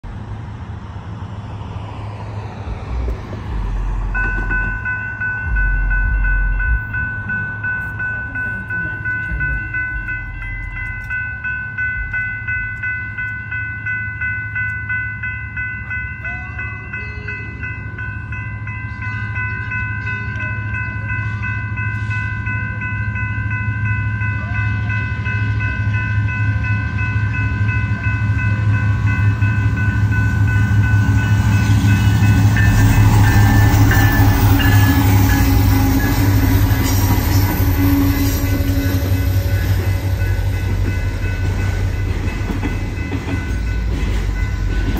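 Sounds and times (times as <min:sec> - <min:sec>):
diesel freight train rumble: 0:00.0 - 0:44.9
railroad crossing bell ringing: 0:03.6 - 0:44.9.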